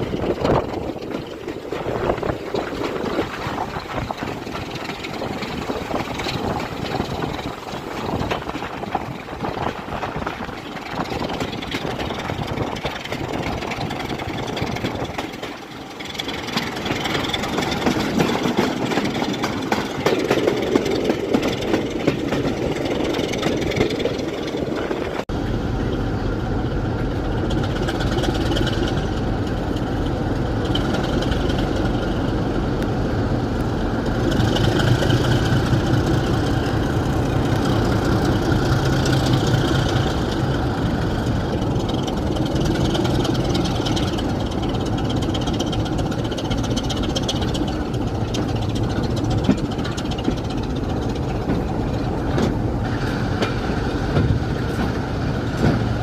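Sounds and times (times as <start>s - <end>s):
locomotive engine running: 0.0s - 56.0s.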